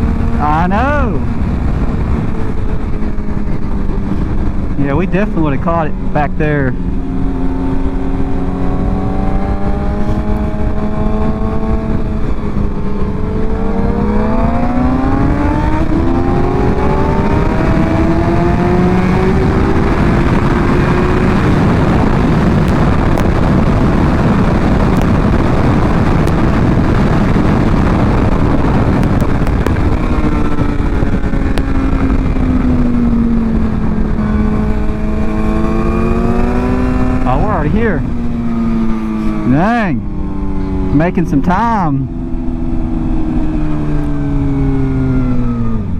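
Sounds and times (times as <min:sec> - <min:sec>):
motorcycle engine accelerating: 0:00.0 - 0:45.9
wind rush: 0:00.0 - 0:45.9.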